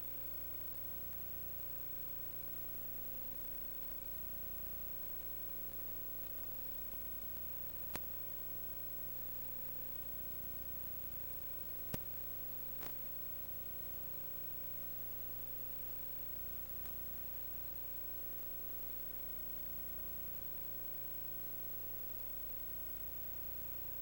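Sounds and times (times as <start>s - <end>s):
electrical hum and hiss: 0.0s - 24.0s.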